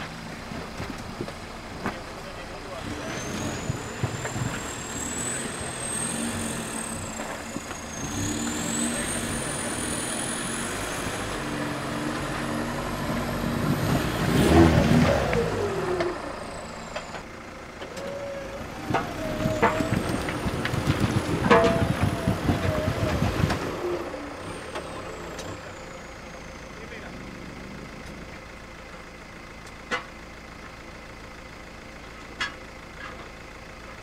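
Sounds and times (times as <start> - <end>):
offroad vehicle engine revving: 0.0 - 30.8.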